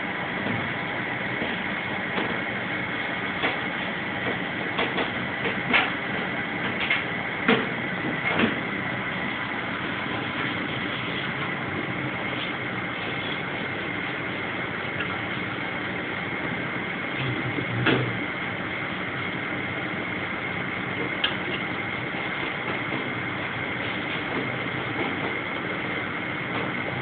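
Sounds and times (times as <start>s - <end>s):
constant high whine: 0.0s - 27.0s.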